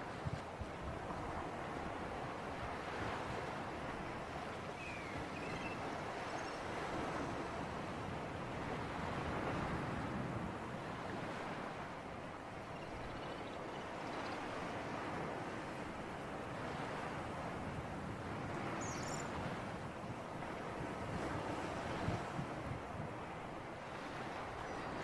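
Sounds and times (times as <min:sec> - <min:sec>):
sea waves washing on shore: 0:00.0 - 0:12.6, 0:13.6 - 0:25.0
sea breeze: 0:00.0 - 0:25.0.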